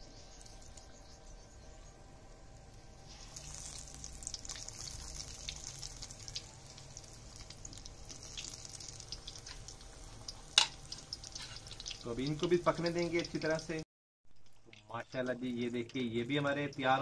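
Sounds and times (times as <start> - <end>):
pakoras deep-frying in oil: 0.0 - 17.0.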